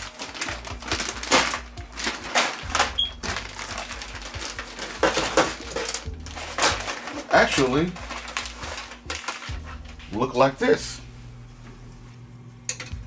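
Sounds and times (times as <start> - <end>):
plastic strips rustling and clicking: 0.0 - 10.5.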